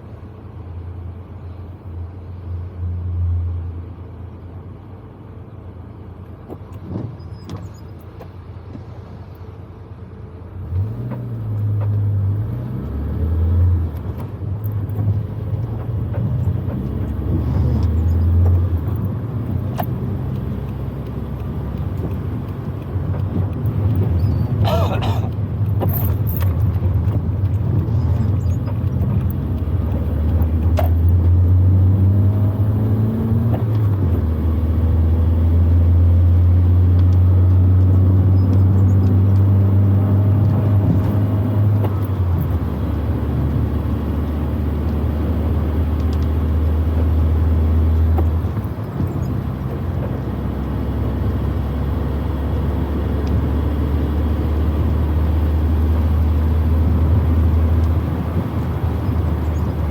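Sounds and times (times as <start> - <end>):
car engine drone from cabin: 0.0 - 59.9.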